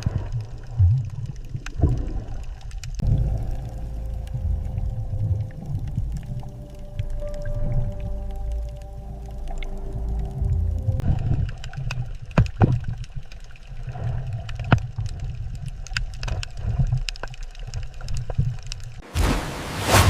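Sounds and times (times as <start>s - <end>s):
low underwater rumble: 0.0s - 17.1s
clicks and gurgles: 0.0s - 19.0s.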